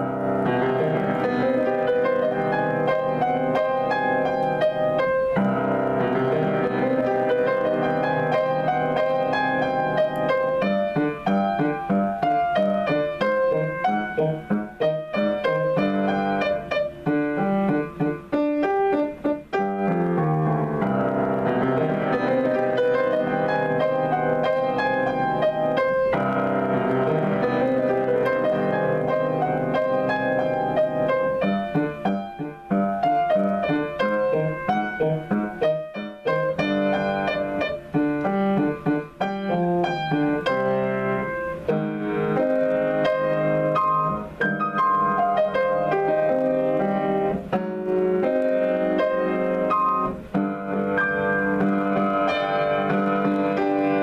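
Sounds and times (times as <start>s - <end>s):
solo acoustic piano: 0.0s - 54.0s.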